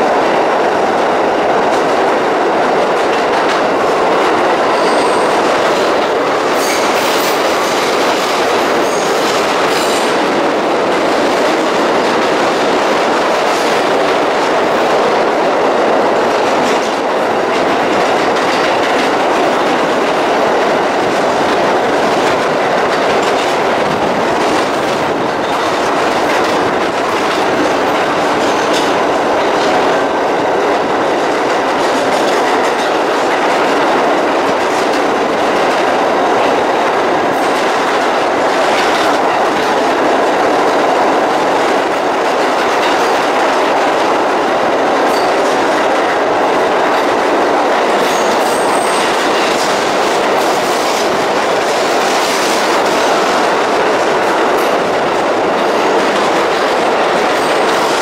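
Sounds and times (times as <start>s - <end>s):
train wheels rumbling on rails: 0.0s - 58.0s
wheels clacking over rail joints: 0.0s - 58.0s.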